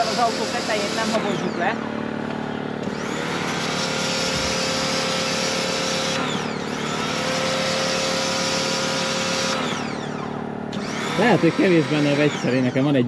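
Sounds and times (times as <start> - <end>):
pressure washer motor whine: 0.0 - 13.0.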